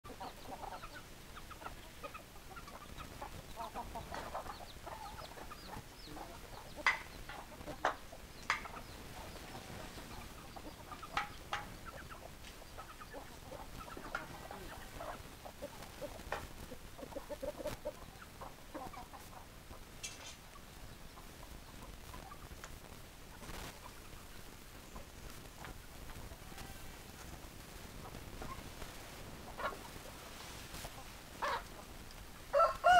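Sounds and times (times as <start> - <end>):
chickens clucking: 0.1 - 32.9.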